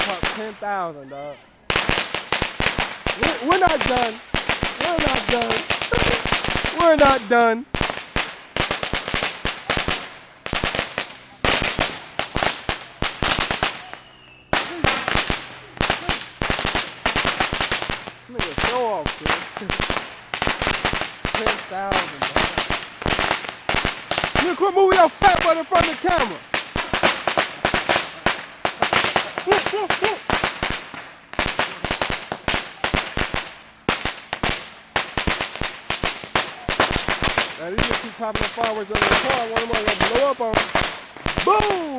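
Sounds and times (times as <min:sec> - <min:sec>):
firecrackers cracking: 0:00.0 - 0:41.9.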